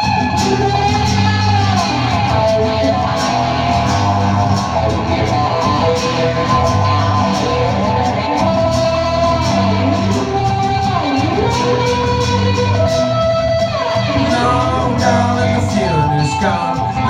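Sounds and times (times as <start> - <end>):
bass line: 0.0 - 17.0
melody in long notes: 0.0 - 17.0
strummed guitar: 0.0 - 17.0.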